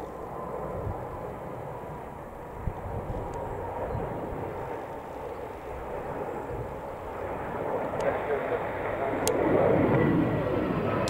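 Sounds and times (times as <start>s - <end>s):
faint jet whine: 0.0s - 11.0s
jet engines flying past: 0.0s - 11.0s.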